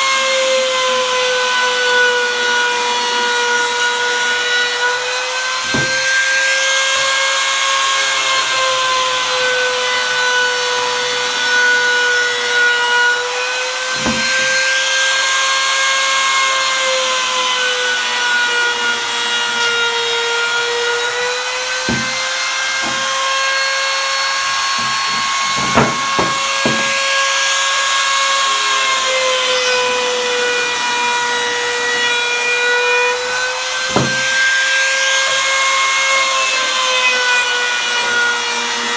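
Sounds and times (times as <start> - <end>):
router high whine: 2.0 - 38.9.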